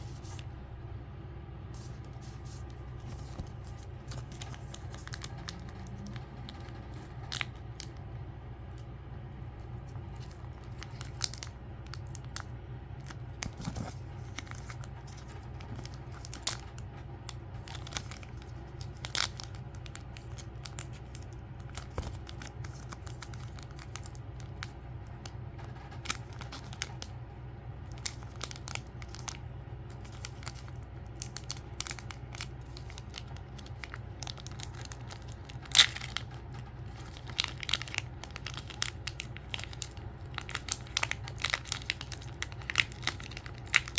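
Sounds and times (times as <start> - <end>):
steady low hum: 0.0 - 43.9
packaging torn and crinkled: 1.8 - 8.0, 9.9 - 27.2, 27.8 - 43.9.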